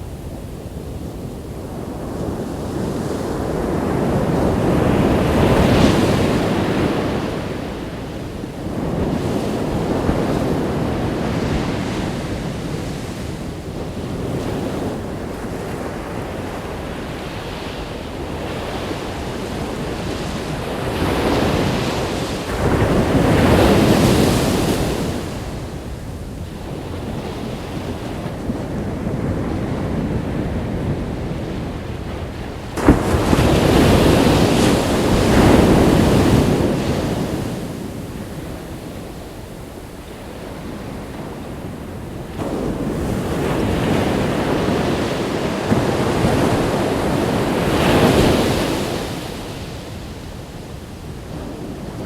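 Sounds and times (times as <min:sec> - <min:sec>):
ocean surf breaking: 0:00.0 - 0:52.0
wind buffeting microphone: 0:00.0 - 0:52.0.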